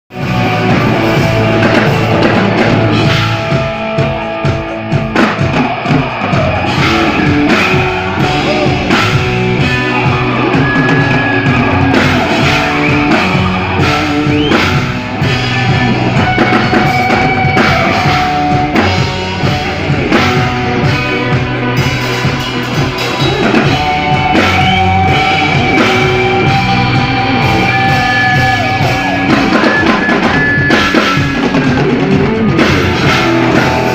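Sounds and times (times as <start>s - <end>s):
drum kit beat: 0.1s - 33.9s
rock band playing live: 0.1s - 33.9s.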